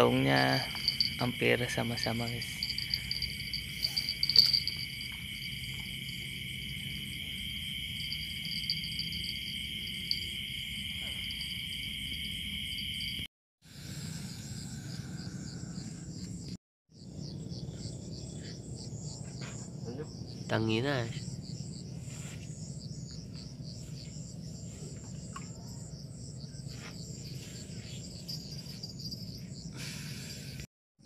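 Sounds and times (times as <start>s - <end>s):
fast pulsing insect call: 0.0s - 30.6s
insects trilling: 0.0s - 30.6s.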